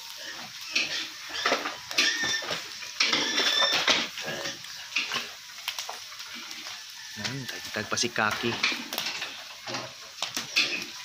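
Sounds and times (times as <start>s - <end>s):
fire crackling and hissing: 0.0s - 11.0s
fire pops: 0.8s - 6.6s, 7.2s - 11.0s.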